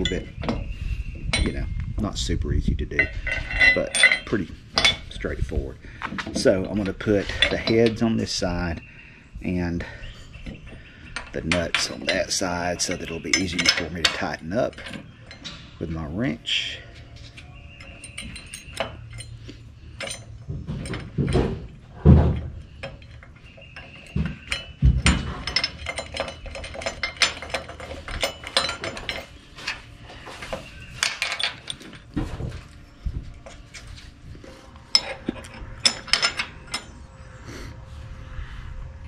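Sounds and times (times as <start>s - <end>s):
metal bolts clinking: 0.0s - 0.7s, 1.3s - 1.7s, 2.9s - 8.8s, 10.4s - 32.7s, 34.8s - 37.2s.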